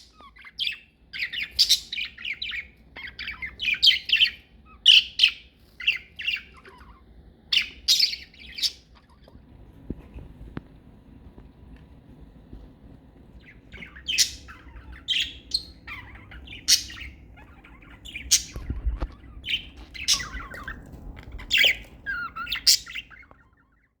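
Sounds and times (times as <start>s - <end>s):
budgerigars chirping and squawking: 0.0s - 9.5s, 13.3s - 24.0s.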